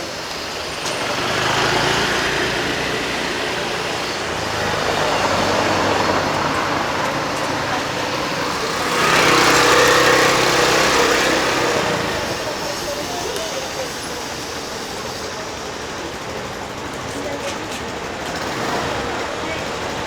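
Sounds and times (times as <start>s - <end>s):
vehicles passing with tyre noise: 0.0s - 20.0s.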